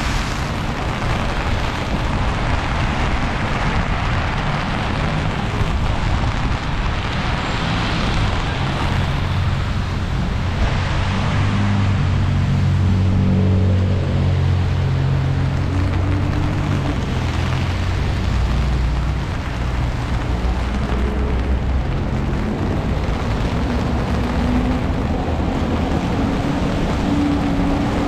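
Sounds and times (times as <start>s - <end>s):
heavy freezing rain falling: 0.0s - 28.0s
vehicle engine humming: 0.0s - 28.0s.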